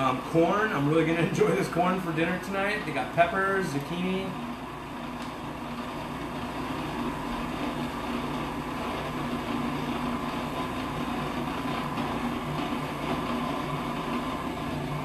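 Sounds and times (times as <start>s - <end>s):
food processor grinding seeds: 0.0s - 15.0s.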